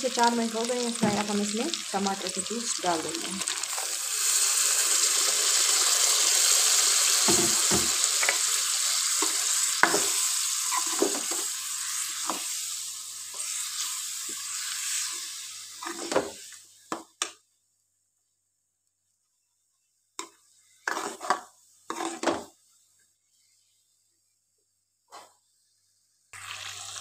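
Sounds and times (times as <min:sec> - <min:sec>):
juice sizzling in hot oil: 0:00.0 - 0:19.2, 0:19.8 - 0:27.0.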